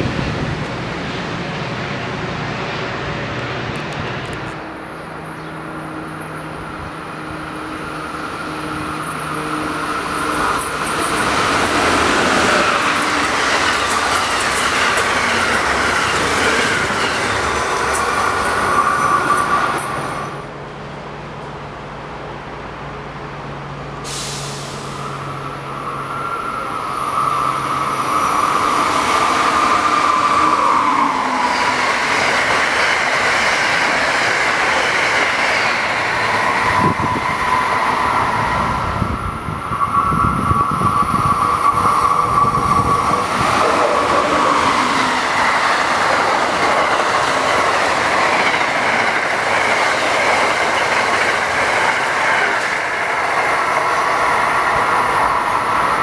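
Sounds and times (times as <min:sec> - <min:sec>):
high train whine: 0:00.0 - 0:56.0
train wheels rushing on rail: 0:00.0 - 0:56.0.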